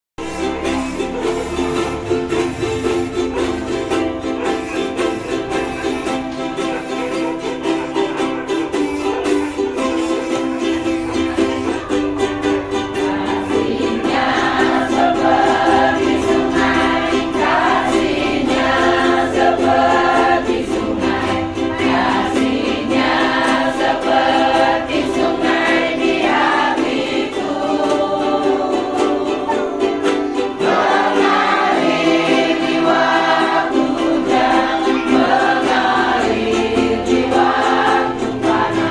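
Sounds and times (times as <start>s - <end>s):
instrumental accompaniment: 0.2s - 38.9s
choir singing a hymn: 0.3s - 38.9s.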